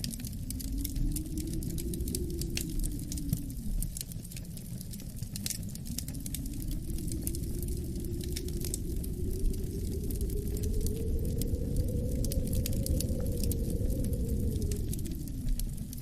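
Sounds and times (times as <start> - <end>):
wind howling: 0.0 - 16.0
wood fire crackling and popping: 0.0 - 16.0.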